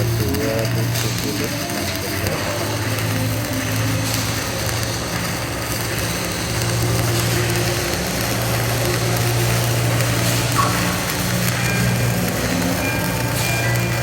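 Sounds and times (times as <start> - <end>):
welding arc crackling: 0.0 - 14.0
welding machine hum: 0.0 - 14.0.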